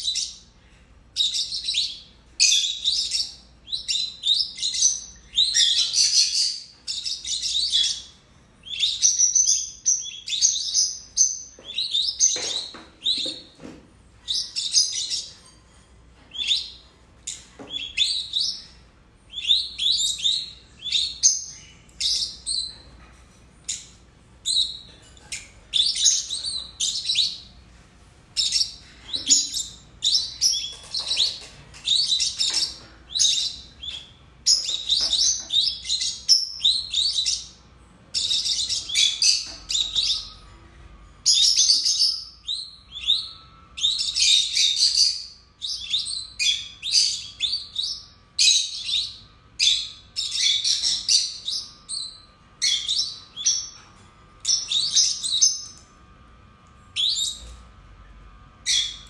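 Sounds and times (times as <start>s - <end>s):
lovebirds chirping: 0.0s - 27.7s, 28.3s - 55.9s, 56.9s - 57.6s, 58.6s - 59.0s.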